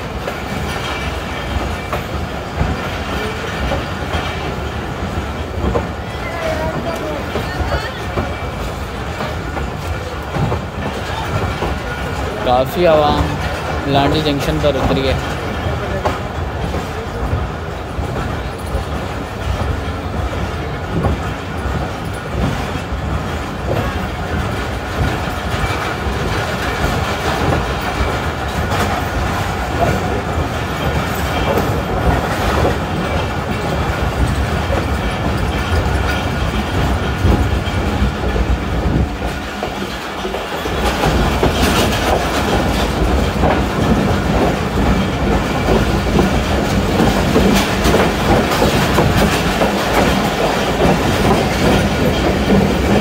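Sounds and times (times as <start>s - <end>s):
train running rumble: 0.0s - 53.0s
train wheels clattering over rail joints: 0.0s - 53.0s.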